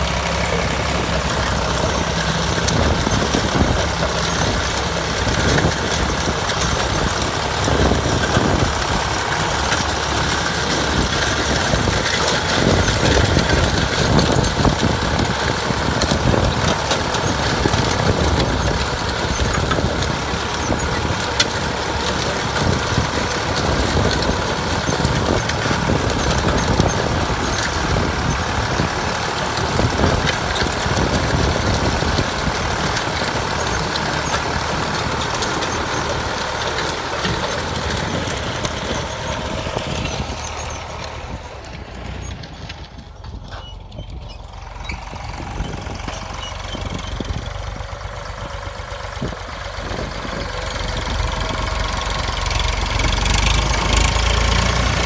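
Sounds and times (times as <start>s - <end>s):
plough discs scraping stony soil: 0.0s - 47.6s
tractor diesel engine running: 0.0s - 55.0s.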